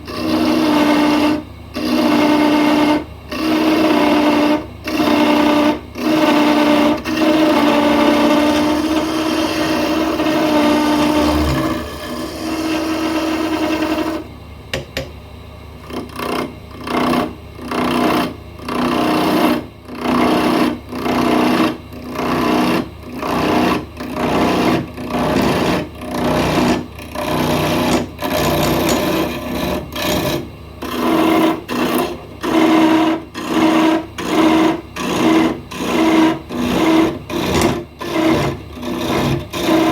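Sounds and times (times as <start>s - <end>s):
wood lathe motor hum: 0.0s - 14.2s, 15.8s - 39.9s.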